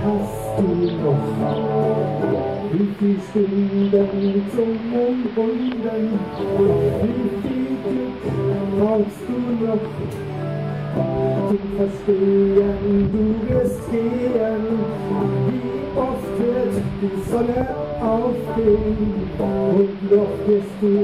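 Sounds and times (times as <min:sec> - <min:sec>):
song with guitar: 0:00.0 - 0:21.0.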